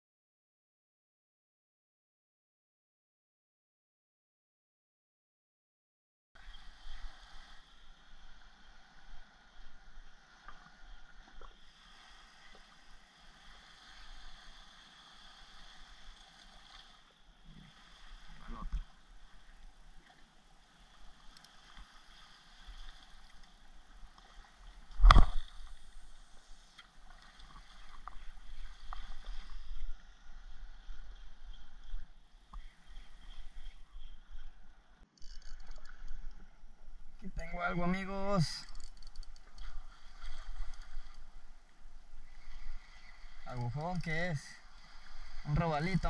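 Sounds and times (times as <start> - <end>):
shallow water sloshing: 6.4 - 46.0.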